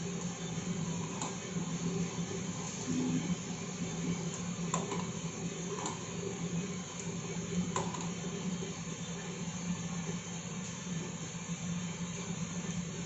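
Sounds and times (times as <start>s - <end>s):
coffee roasting machine hum: 0.0s - 13.0s.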